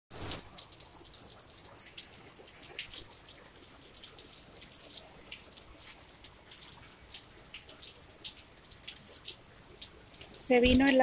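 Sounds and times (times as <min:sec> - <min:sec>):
rain falling: 0:00.1 - 0:11.0.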